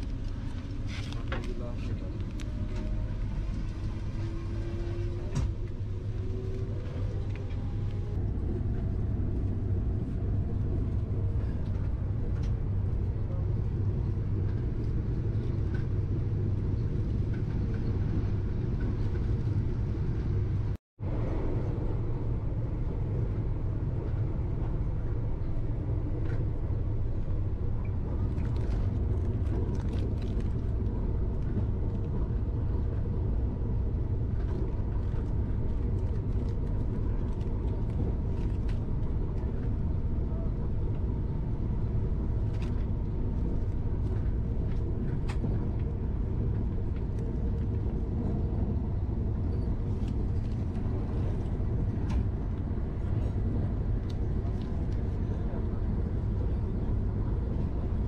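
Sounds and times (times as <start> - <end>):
train rumbling inside carriage: 0.0 - 58.0.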